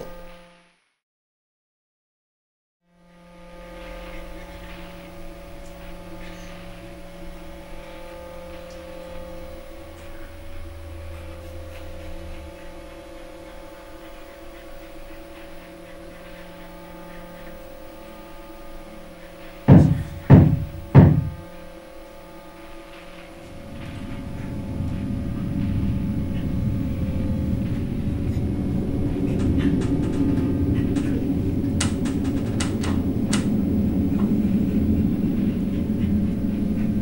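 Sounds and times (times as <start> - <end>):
low electrical hum with tones: 0.0 - 0.8, 2.9 - 37.0.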